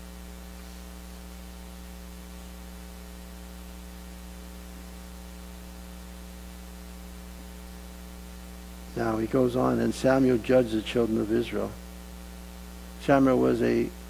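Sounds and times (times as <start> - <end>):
electrical mains hum: 0.0 - 14.0
faint hiss: 0.0 - 14.0.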